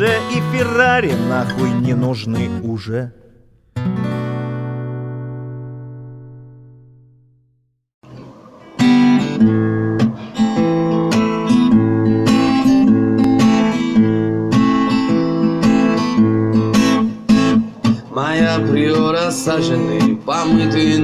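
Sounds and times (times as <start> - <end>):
strummed guitar chords: 0.0 - 7.2, 8.0 - 21.0.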